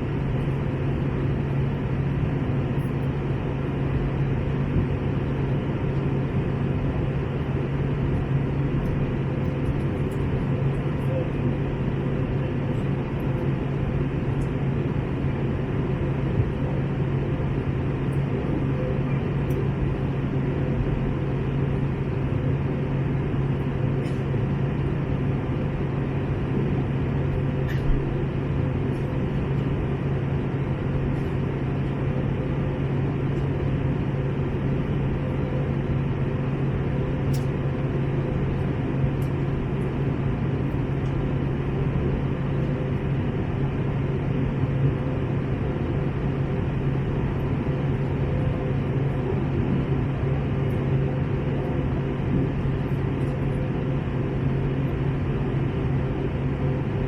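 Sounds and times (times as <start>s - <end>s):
aircraft cabin engine roar: 0.0s - 57.0s.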